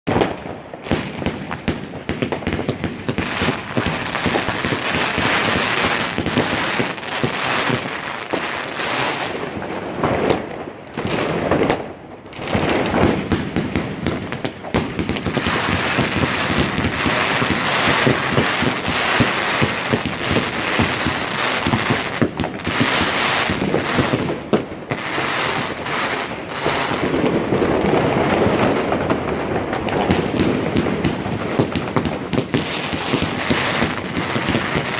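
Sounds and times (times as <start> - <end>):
firework crackling with sharp pops: 0.1 - 34.9.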